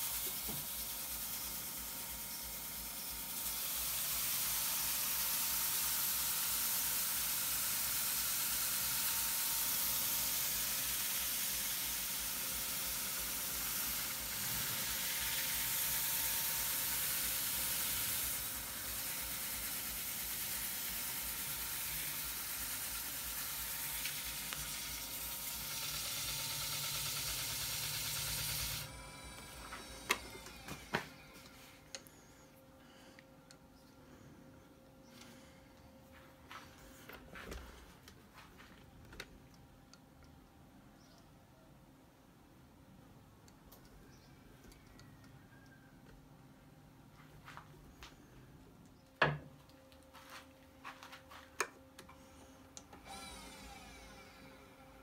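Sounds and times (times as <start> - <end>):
faint motor whine: 0.0 - 55.0.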